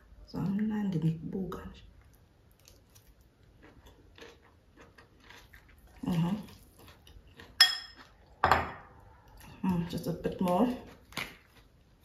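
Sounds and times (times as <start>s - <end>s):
person chewing salad: 1.9s - 12.0s.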